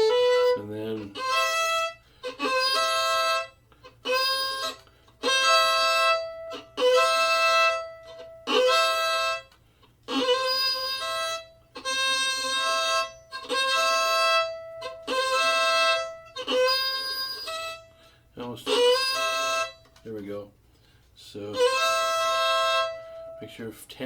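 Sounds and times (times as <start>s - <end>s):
fiddle playing double stops: 0.0s - 20.3s, 21.4s - 23.8s.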